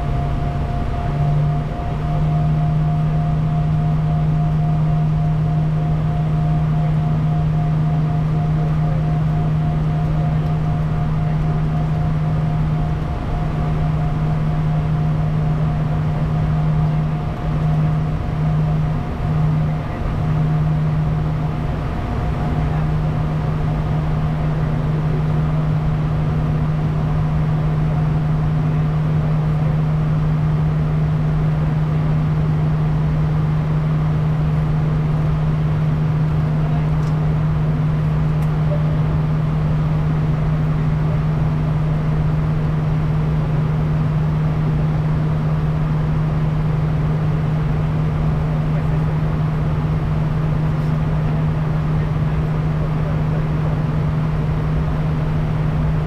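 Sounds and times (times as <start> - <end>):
constant low hum: 0.0 - 56.0
jet cabin engine drone: 0.0 - 56.0.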